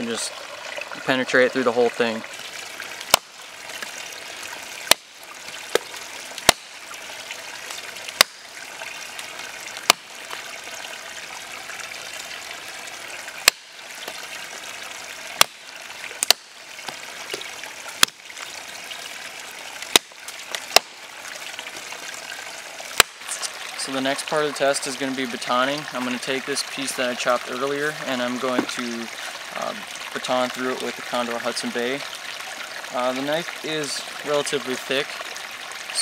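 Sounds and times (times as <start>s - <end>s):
steady trickling: 0.0s - 36.0s.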